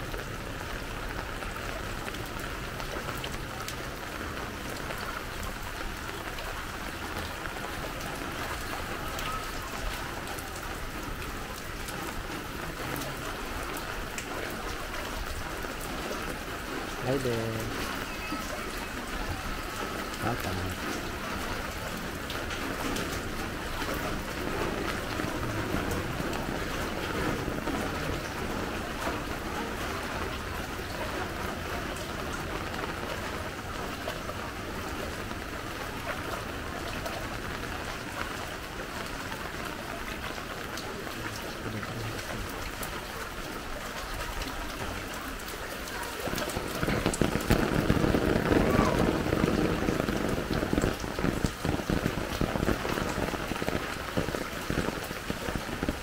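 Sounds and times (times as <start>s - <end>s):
faint voices: 7.4s - 56.0s.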